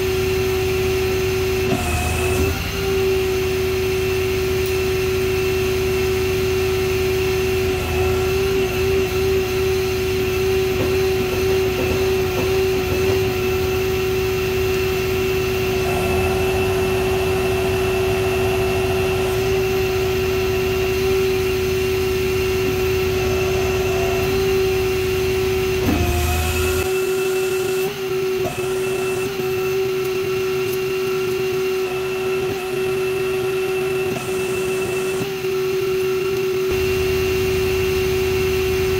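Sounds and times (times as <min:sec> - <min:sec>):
mechanical whine: 0:00.0 - 0:38.9.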